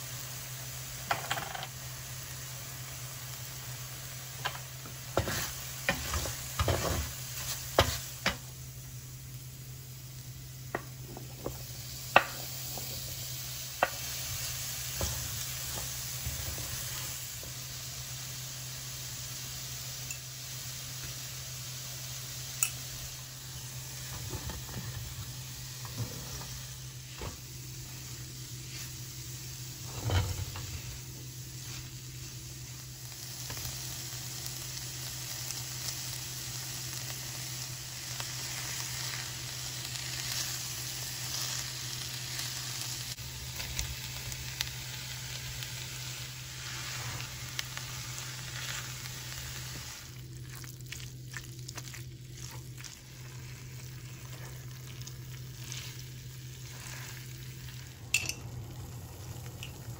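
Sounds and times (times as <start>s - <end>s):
food sizzling in a frying pan: 0.0s - 59.9s.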